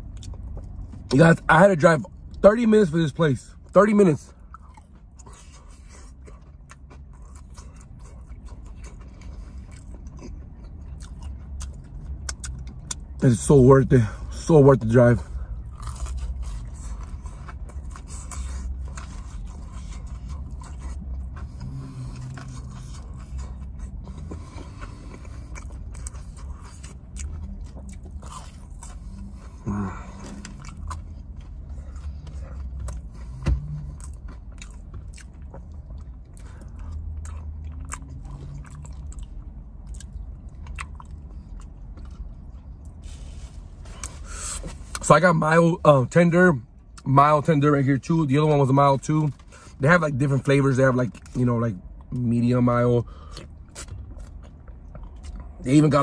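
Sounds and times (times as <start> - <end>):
person chewing and crunching food: 0.0 - 2.7, 3.5 - 13.6, 14.2 - 45.2, 51.1 - 56.0.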